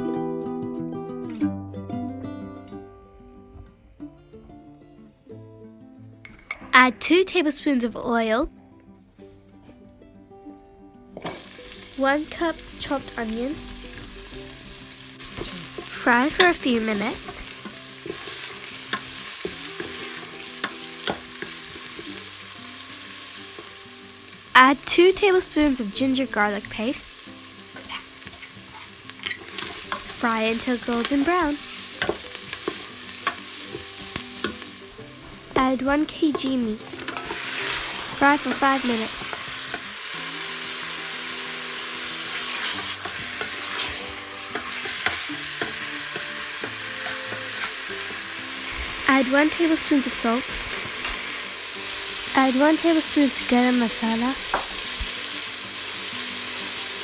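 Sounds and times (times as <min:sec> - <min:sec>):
onions sizzling in oil: 0:11.2 - 0:57.0.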